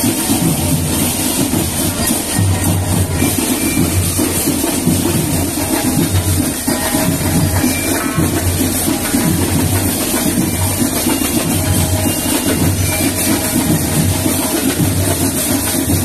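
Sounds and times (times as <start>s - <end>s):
bass drums beating: 0.0s - 16.0s
marching band playing: 0.0s - 16.0s.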